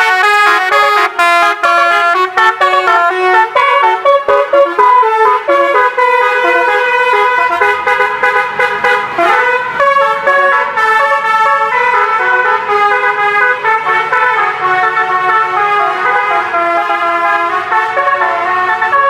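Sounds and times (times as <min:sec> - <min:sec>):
bus air horns playing melody: 0:00.0 - 0:19.0.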